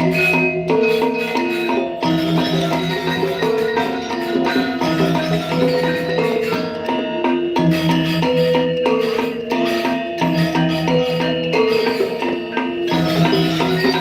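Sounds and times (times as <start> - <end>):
gamelan music: 0.0 - 14.0.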